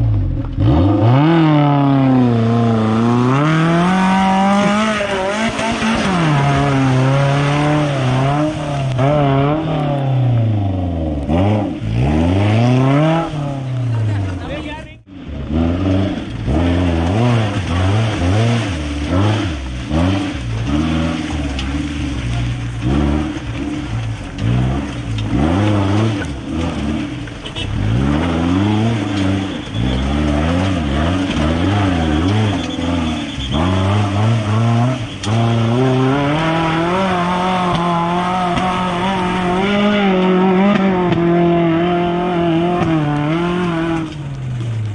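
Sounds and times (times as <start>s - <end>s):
car engine revving hard: 0.0s - 14.4s, 15.3s - 44.9s.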